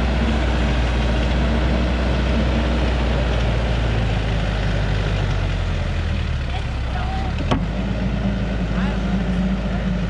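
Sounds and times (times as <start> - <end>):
heavy vehicle engine running: 0.0 - 10.0.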